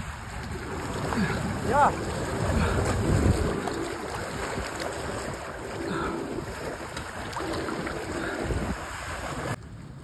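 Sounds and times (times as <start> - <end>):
sea waves washing on beach: 0.0 - 10.0
wind buffeting microphone: 0.0 - 10.0.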